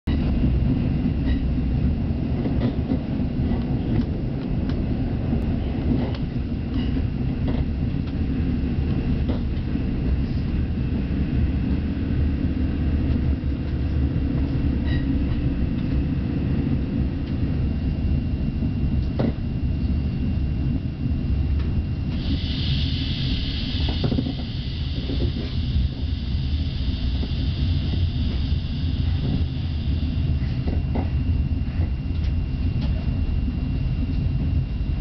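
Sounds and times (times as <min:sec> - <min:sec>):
train rumbling on track: 0:00.0 - 0:35.0.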